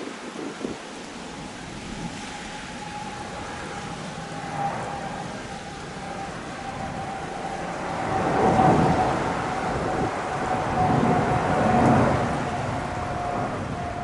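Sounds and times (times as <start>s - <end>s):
jet engine roar: 0.0s - 14.0s
jet engine whine: 0.0s - 14.0s.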